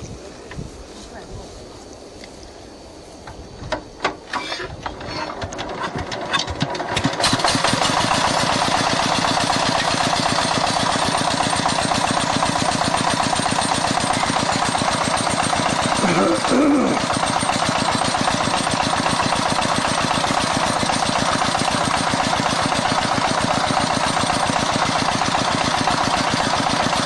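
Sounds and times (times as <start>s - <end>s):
engine starting up: 4.3s - 27.0s.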